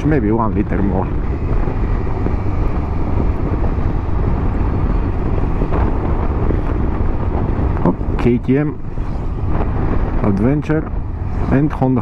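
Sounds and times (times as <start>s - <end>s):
wind rush on microphone: 0.0s - 12.0s
motorcycle engine running: 1.1s - 11.4s.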